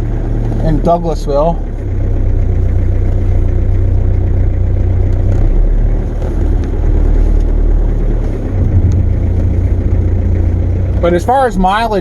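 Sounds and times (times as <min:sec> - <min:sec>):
diesel engine drone from inside cab: 0:00.0 - 0:12.0.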